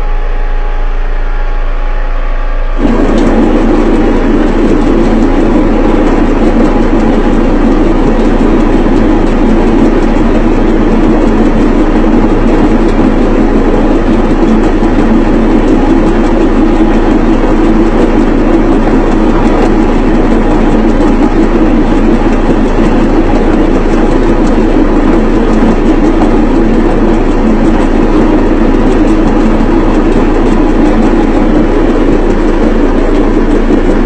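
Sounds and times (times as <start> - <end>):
pounding machine running: 0.0 - 34.0.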